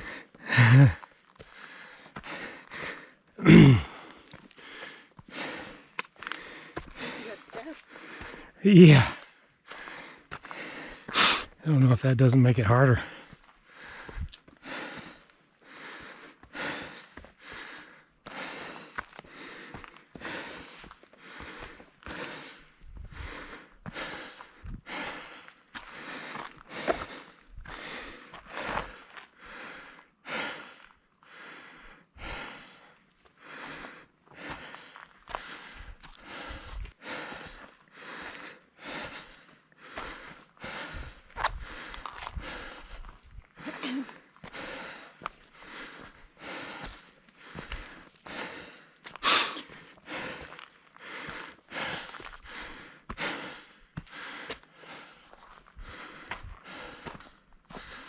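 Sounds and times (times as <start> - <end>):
person breathing hard: 0.0 - 11.6, 12.9 - 58.0.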